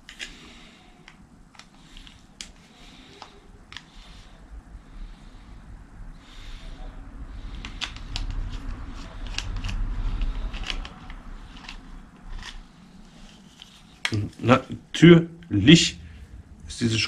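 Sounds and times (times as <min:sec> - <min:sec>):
handling rumble: 0:00.7 - 0:17.0.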